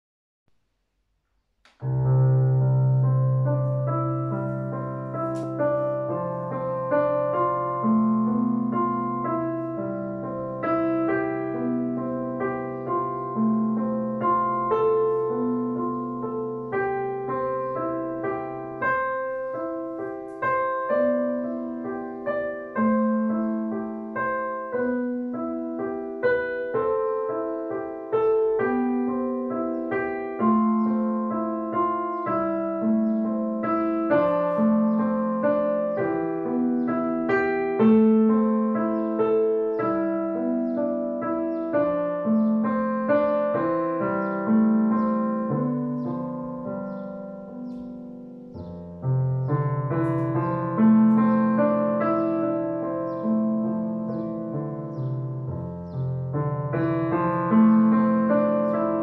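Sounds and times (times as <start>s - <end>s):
slow piano notes: 0.5s - 59.0s.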